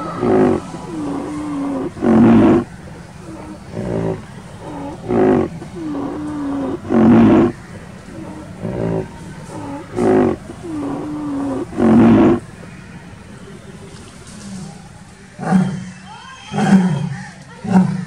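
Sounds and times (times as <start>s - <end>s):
rhinoceros calling: 0.0s - 18.0s.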